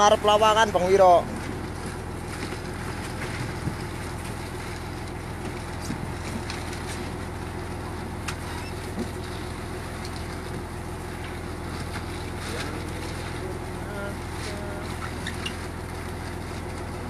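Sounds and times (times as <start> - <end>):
boat engine drone: 0.0 - 17.0.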